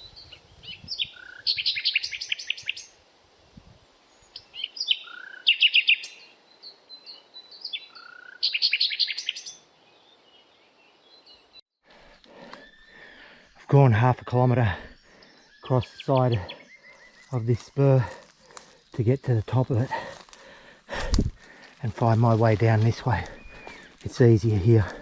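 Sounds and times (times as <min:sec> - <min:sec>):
faint chirps of other birds: 0:00.0 - 0:03.0, 0:03.6 - 0:11.6, 0:12.2 - 0:20.8, 0:21.4 - 0:25.0
songbird singing: 0:00.0 - 0:25.0.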